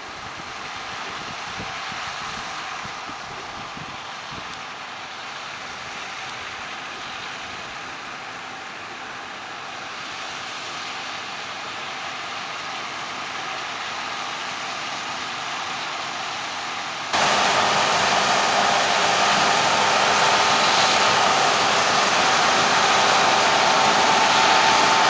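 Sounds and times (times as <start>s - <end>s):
combine harvester running: 0.0s - 25.0s.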